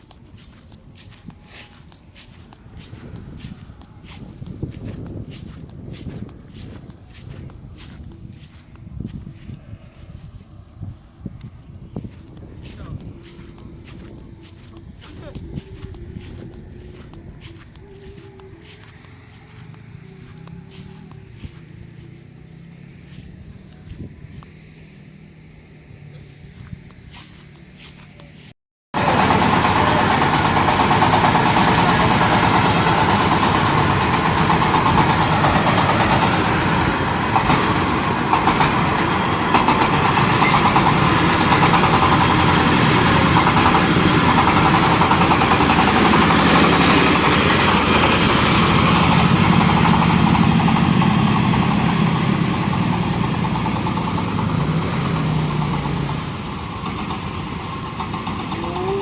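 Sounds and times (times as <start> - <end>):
corn sheller engine running: 0.0 - 24.7, 25.5 - 59.0.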